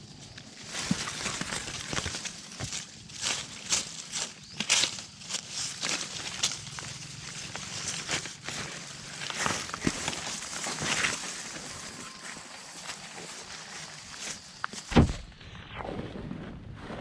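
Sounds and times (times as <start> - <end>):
rustling and crackling leaf litter: 0.0 - 14.9.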